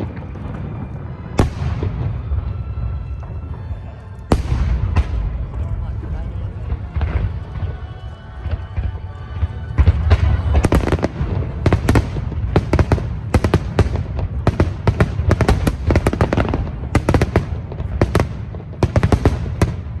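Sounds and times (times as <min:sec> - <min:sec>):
continuous low rumble: 0:00.0 - 0:20.0
fireworks bangs and crackles: 0:00.0 - 0:20.0.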